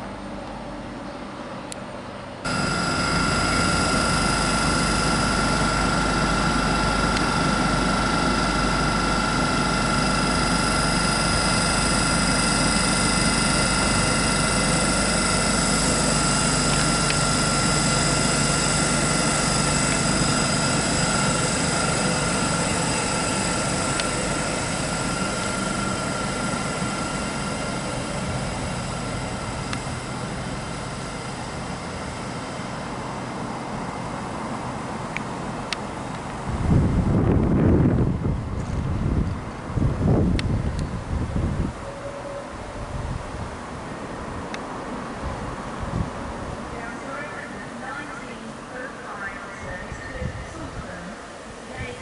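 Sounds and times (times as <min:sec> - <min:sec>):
electric train passing: 0:00.0 - 0:52.0.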